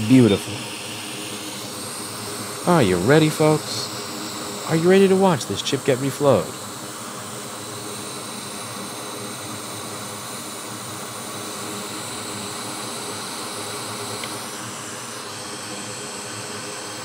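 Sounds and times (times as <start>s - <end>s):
hot air hissing: 0.0s - 17.0s.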